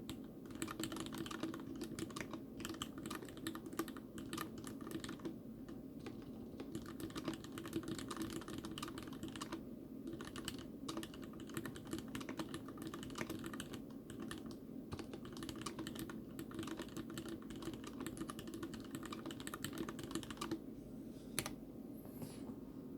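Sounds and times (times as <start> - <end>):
typing on mechanical keyboard: 0.1 - 5.4, 6.0 - 20.6.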